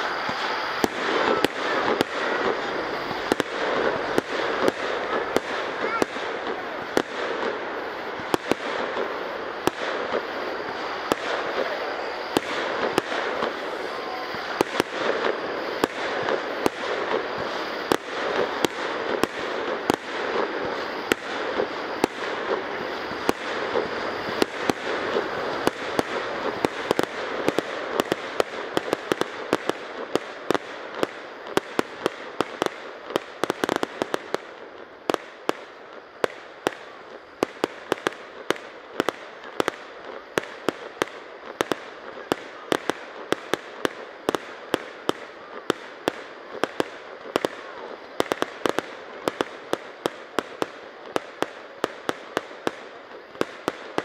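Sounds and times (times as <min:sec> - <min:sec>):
continuous noisy background: 0:00.0 - 0:54.0
fireworks bangs and crackles: 0:00.0 - 0:54.0.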